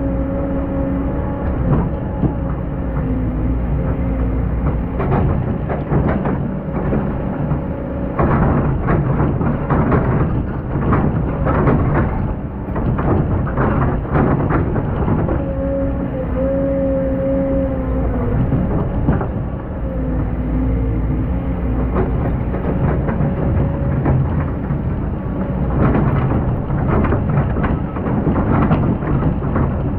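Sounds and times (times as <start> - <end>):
diesel engine under load: 0.0 - 29.9.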